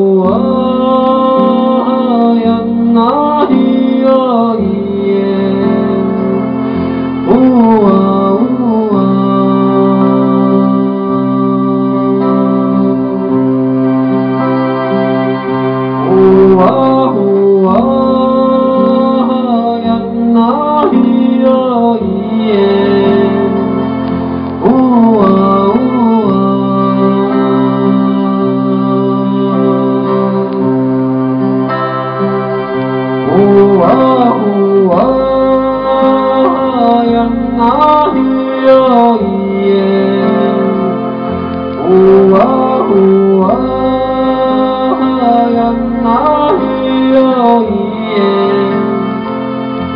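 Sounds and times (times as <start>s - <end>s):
man singing: 0.0s - 14.5s, 15.8s - 49.9s
acoustic guitar: 0.0s - 49.9s
sustained keyboard chord: 0.0s - 49.9s.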